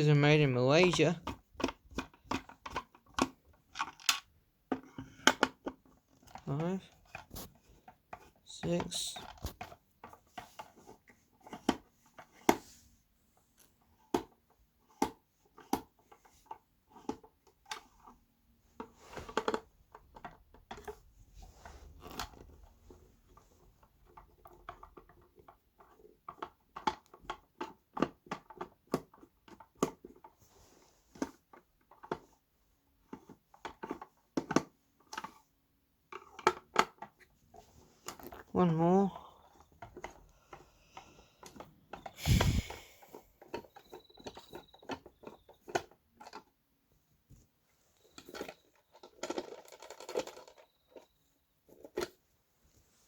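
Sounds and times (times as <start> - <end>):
plastic case being handled: 0.7 - 12.7, 13.5 - 53.0.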